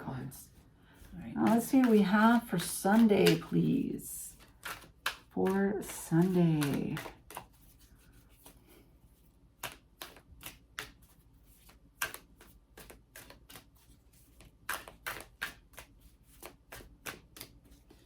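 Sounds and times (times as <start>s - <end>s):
cards being shuffled: 0.5s - 18.0s.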